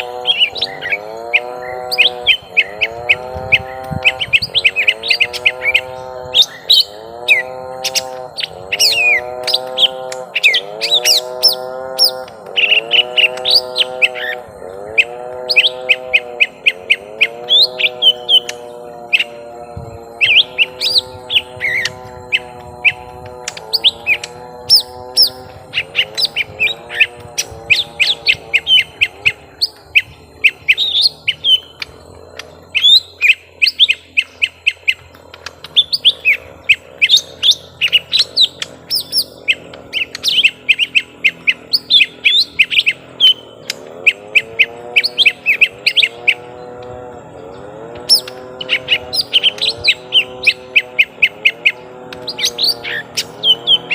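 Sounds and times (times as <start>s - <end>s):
birds chirping and whistling: 0.0s - 53.9s
low wavering hum: 0.0s - 53.9s.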